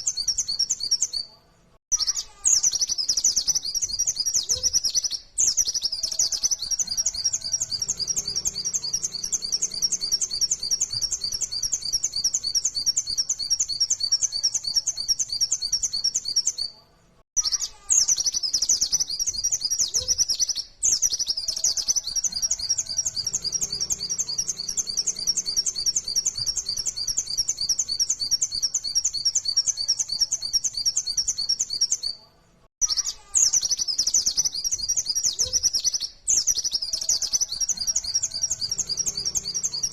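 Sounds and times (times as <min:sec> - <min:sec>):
bird singing fast high chirps: 0:00.0 - 0:01.3, 0:01.9 - 0:16.7, 0:17.4 - 0:32.2, 0:32.8 - 0:39.9.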